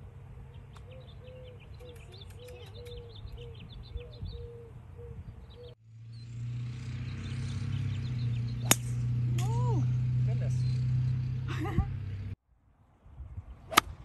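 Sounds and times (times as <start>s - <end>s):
birds chirping: 0.0s - 12.4s.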